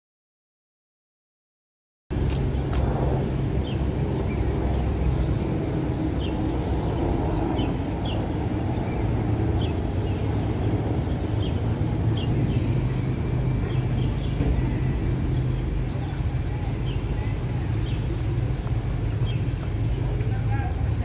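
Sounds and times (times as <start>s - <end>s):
low rumble of city traffic: 2.1s - 21.0s
small birds chirping: 2.2s - 21.0s.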